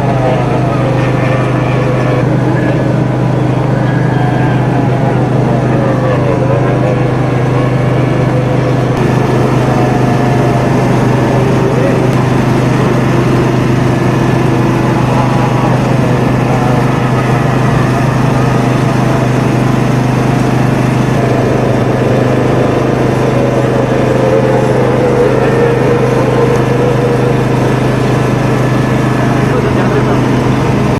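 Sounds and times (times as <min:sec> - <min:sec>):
boat engine droning: 0:00.0 - 0:30.9.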